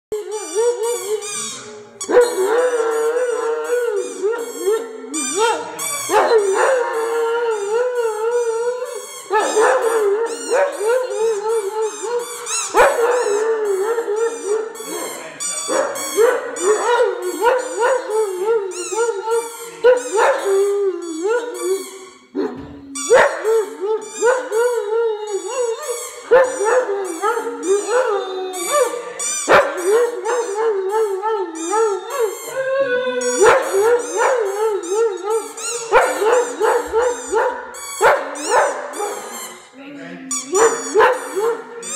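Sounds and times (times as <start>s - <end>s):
dog howling: 2.1s - 37.7s.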